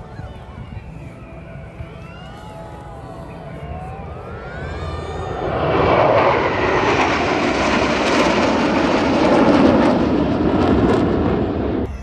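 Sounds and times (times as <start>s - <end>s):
jets roaring overhead: 0.0s - 11.9s.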